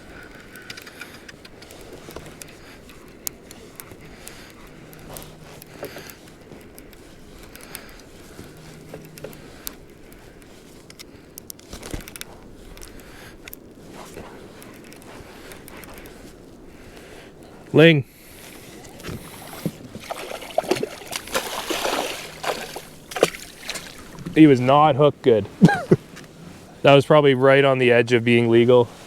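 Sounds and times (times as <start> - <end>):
fishing gear clicks and scrapes: 0.0 - 17.5, 18.2 - 24.8
steady low hiss: 0.0 - 29.0.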